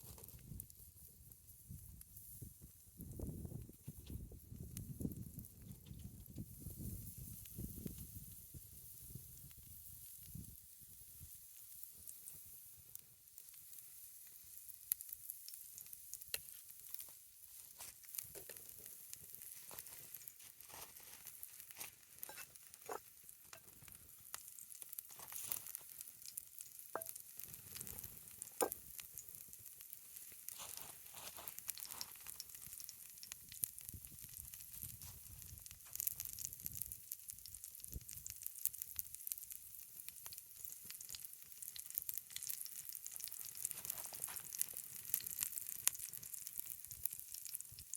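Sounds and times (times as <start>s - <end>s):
pancakes sizzling in a skillet: 0.0s - 47.9s
sharp pops and crackles: 0.0s - 47.9s.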